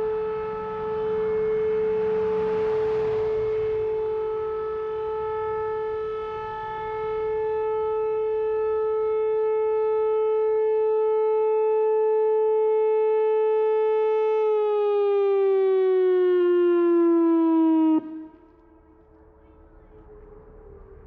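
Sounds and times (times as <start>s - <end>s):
rotating warning siren: 0.0s - 21.0s.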